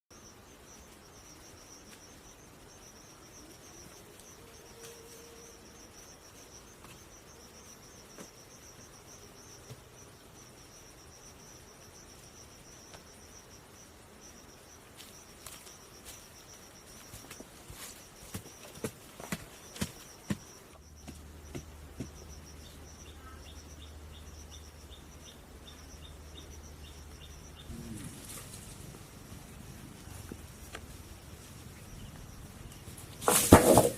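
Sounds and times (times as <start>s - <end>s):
high-pitched insect trill: 0.1s - 29.9s.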